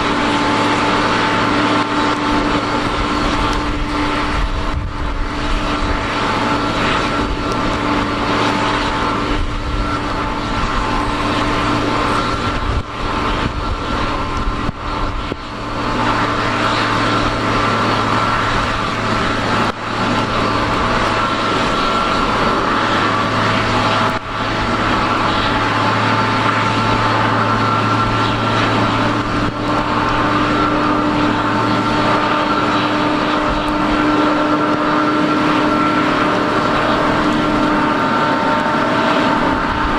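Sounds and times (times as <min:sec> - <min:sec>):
airliner turbine whine: 0:00.0 - 0:39.9
low hum: 0:00.0 - 0:39.9.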